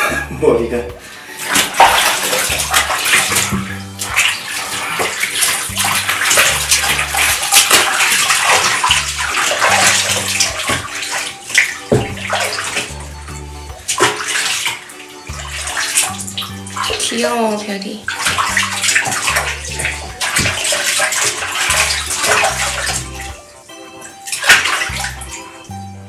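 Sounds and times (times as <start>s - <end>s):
background music: 0.0s - 26.0s
bathwater splashing: 1.0s - 25.8s.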